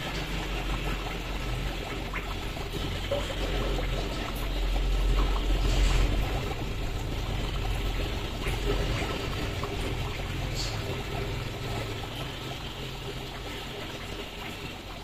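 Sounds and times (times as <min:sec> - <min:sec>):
water trickling in aquarium: 0:00.0 - 0:15.0.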